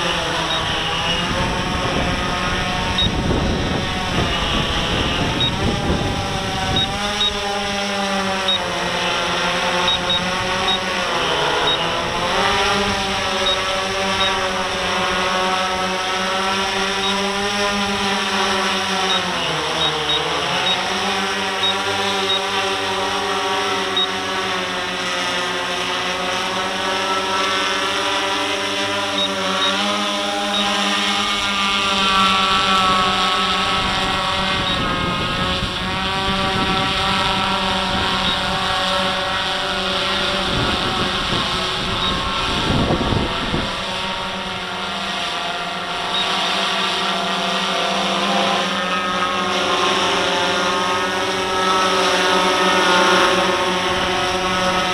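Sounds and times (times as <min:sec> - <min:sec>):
drone propellers whirring: 0:00.0 - 0:54.9.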